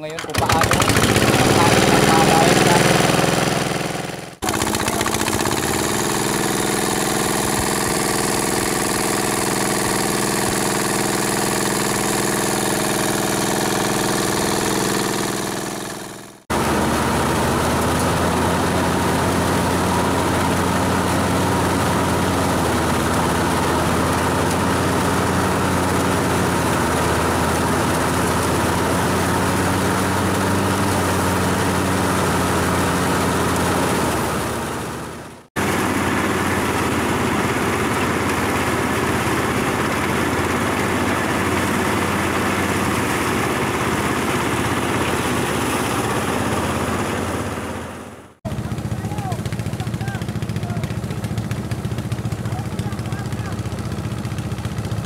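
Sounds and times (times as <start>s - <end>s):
rice thresher running: 0.0s - 55.0s.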